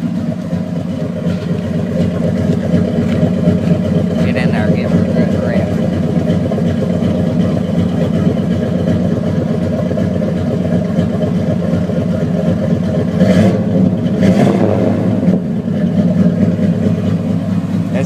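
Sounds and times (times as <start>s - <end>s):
engine throttle blips: 0.0s - 18.0s
loud rough engine idling: 0.0s - 18.0s.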